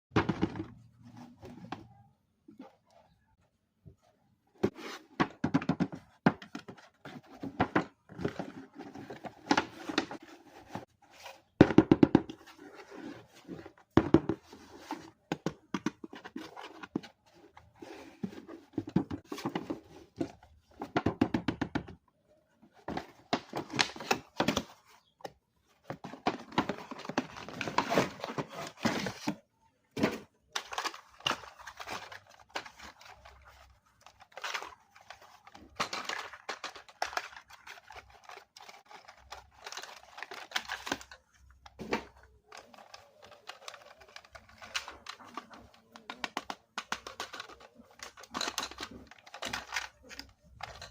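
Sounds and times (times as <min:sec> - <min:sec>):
toy packaging handled: 0:03.9 - 0:21.4, 0:22.2 - 0:50.9.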